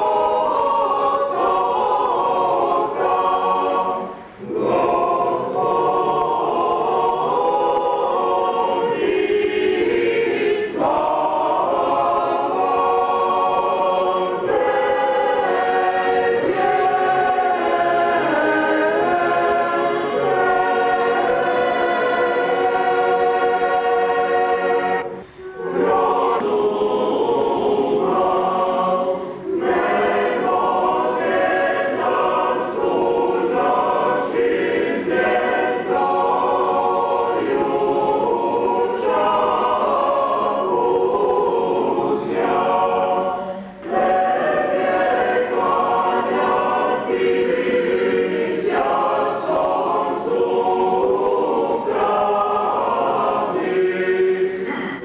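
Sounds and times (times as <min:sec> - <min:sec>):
choir chanting without instruments: 0:00.0 - 0:55.0.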